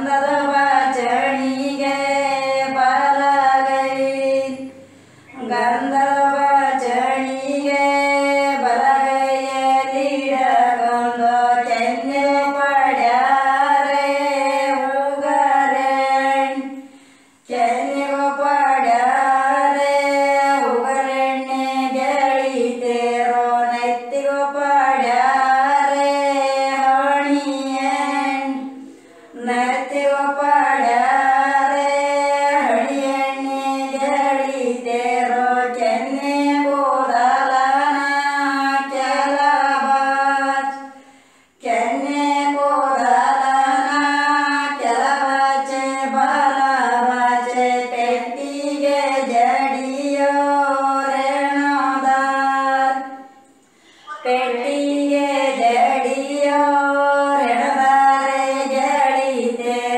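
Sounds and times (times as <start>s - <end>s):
woman singing: 0.0s - 16.8s, 17.5s - 28.8s, 29.4s - 41.0s, 41.6s - 53.3s, 54.0s - 59.9s.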